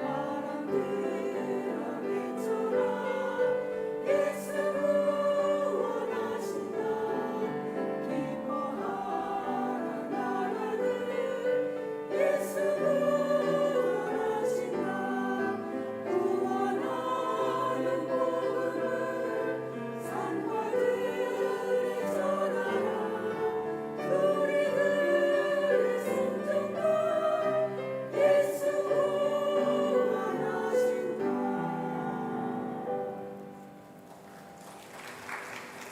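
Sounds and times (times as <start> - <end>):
choir singing gospel: 0.0 - 33.7.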